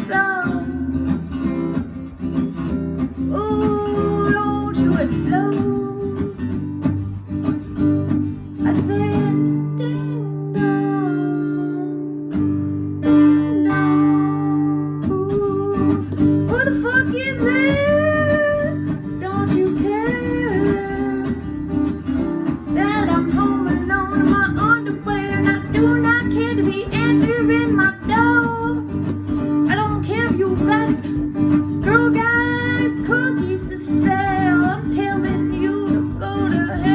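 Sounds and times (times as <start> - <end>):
person singing: 0.0 - 1.0, 3.2 - 6.5, 8.6 - 12.2, 13.3 - 22.0, 22.7 - 36.9
acoustic guitar playing: 0.0 - 36.9.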